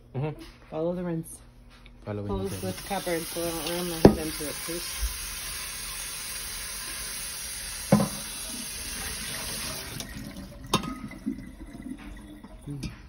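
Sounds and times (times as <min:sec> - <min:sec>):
faucet running water: 0:02.4 - 0:13.0.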